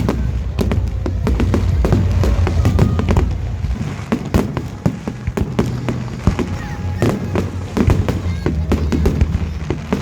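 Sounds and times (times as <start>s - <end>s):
fireworks bangs and crackles: 0.0s - 10.0s
low rumble: 0.0s - 10.0s.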